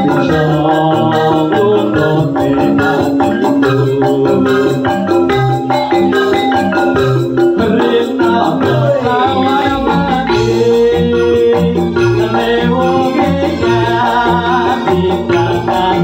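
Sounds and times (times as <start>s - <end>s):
keyboard melody: 0.0s - 16.0s
live band instrumental: 0.0s - 16.0s
note gliding downward: 2.0s - 16.0s.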